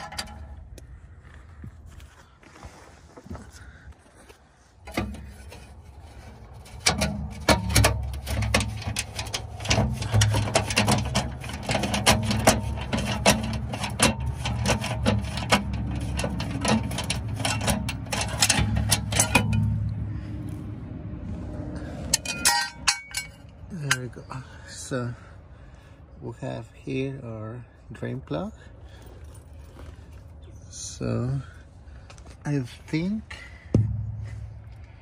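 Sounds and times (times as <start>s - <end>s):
steady low hum: 4.5s - 26.3s, 27.5s - 35.0s.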